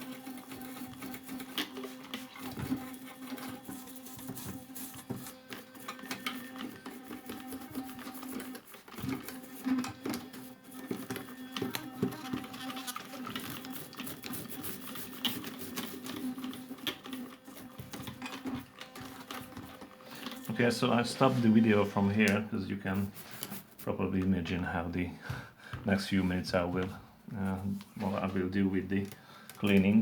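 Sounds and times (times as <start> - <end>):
fast rubbing: 0.0 - 24.6.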